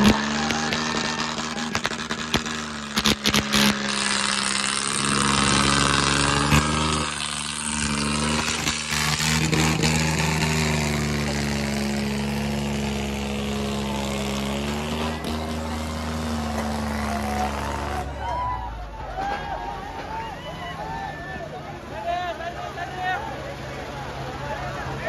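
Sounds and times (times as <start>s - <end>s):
diesel tractor engines running: 0.0s - 25.0s.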